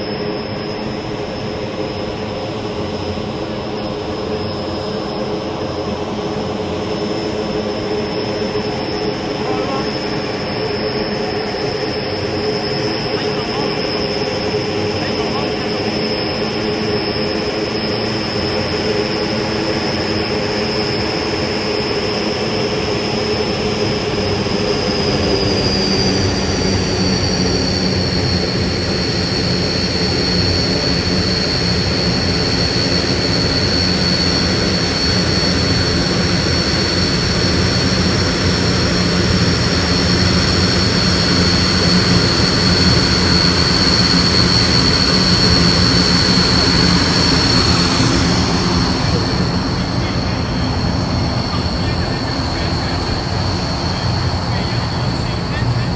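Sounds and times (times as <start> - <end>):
turboprop engines whining: 0.0 - 55.9.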